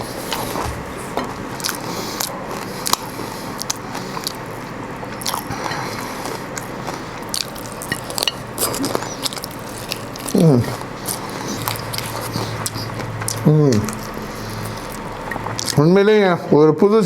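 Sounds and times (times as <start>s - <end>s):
biting and chewing crispy food: 0.0s - 16.2s.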